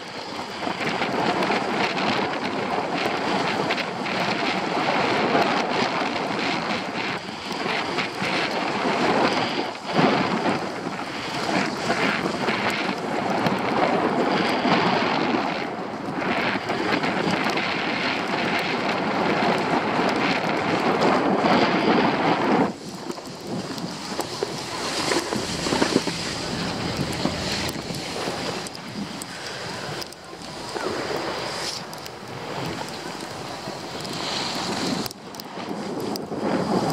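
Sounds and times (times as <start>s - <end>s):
skis scraping over snow: 0.0s - 36.9s
wind rushing over microphone: 0.0s - 36.9s.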